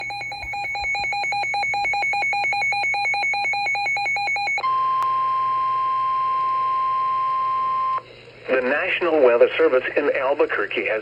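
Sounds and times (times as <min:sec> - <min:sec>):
steady alarm tone: 0:00.0 - 0:08.9.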